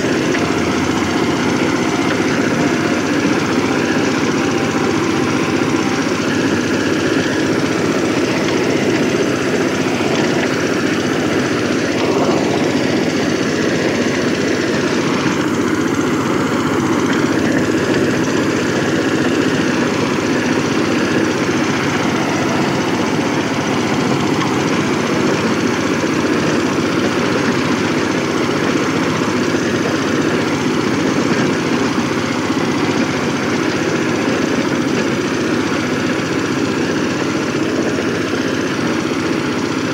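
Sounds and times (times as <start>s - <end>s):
power tiller diesel engine running: 0.0s - 39.9s.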